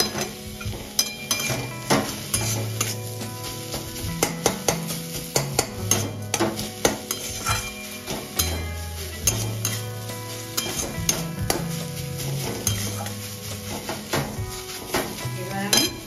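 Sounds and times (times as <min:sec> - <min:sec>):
background music with bass notes: 0:00.0 - 0:16.0
metal spatula scraping a wok: 0:00.0 - 0:16.0.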